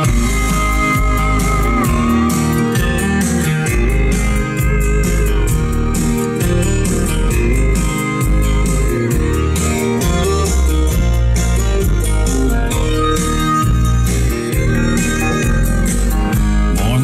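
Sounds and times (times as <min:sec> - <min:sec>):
country song on car stereo: 0:00.0 - 0:17.0.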